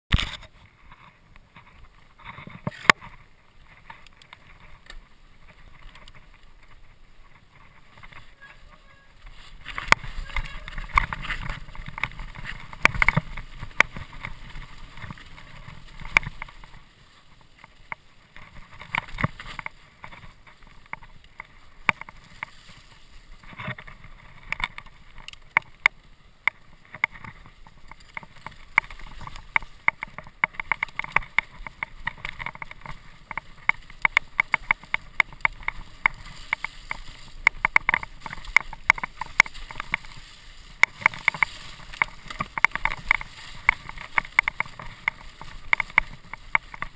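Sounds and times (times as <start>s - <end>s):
mountain bike rattling on dirt trail: 0.1s - 46.9s.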